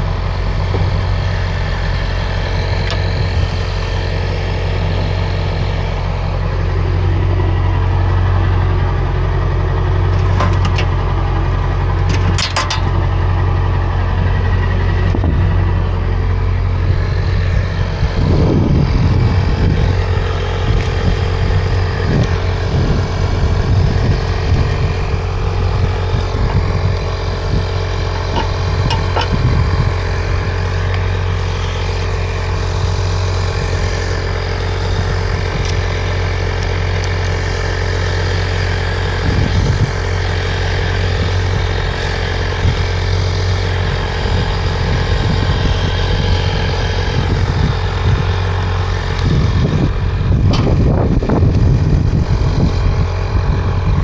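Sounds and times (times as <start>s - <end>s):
road noise: 0.0s - 54.0s
vehicle engine drone: 0.0s - 54.0s.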